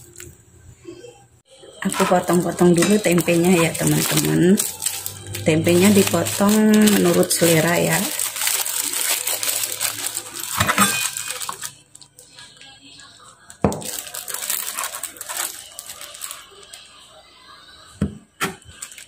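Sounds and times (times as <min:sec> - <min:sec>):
plastic wrapping crinkling: 0:01.7 - 0:17.1, 0:18.4 - 0:19.0.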